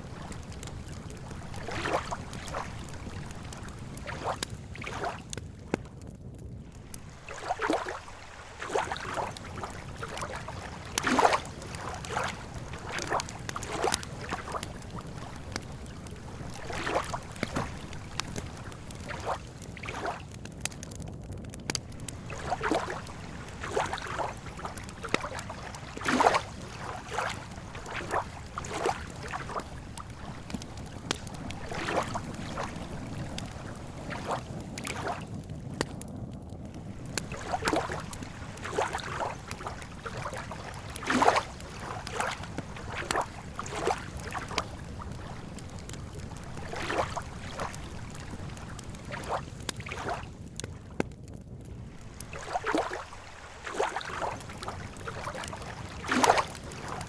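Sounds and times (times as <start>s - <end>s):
lake waves lapping against shore: 0.0s - 6.0s, 6.6s - 51.0s, 51.6s - 57.0s.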